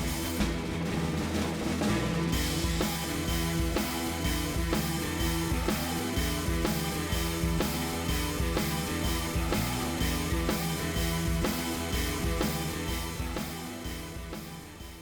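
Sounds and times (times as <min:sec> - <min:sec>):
song with guitar and drums: 0:00.0 - 0:15.0.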